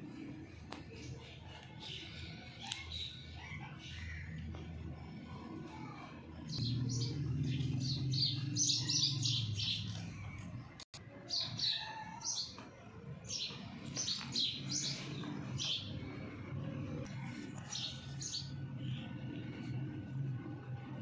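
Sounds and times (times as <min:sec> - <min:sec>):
small birds chirping: 0:00.0 - 0:16.4, 0:17.0 - 0:19.8.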